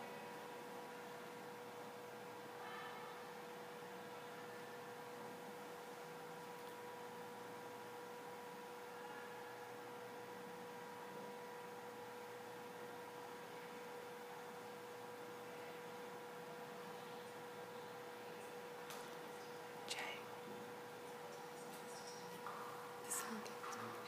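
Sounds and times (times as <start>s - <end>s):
faint electrical hum: 0.0s - 24.0s
room hiss: 0.0s - 24.0s.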